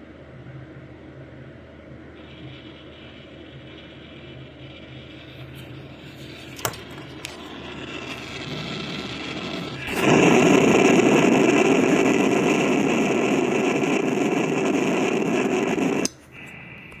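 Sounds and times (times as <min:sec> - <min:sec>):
buzzy receiver hiss: 0:02.2 - 0:17.0.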